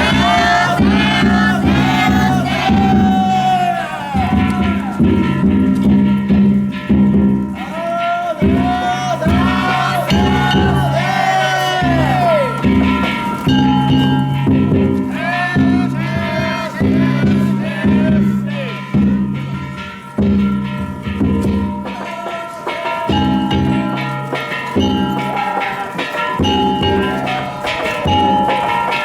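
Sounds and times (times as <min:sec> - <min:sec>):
gongs ringing: 0:00.0 - 0:29.0
pounding drum: 0:00.0 - 0:29.0
voices chanting: 0:00.0 - 0:29.0.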